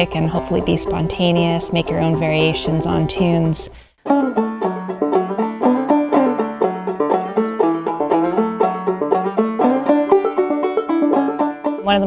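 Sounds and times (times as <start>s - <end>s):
banjo playing old-time tune: 0.0s - 12.0s.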